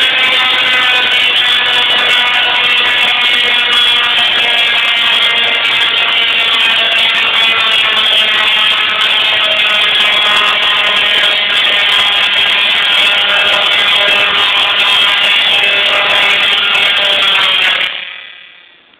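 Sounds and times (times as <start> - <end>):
tesla coil buzzing note: 0.0 - 18.9.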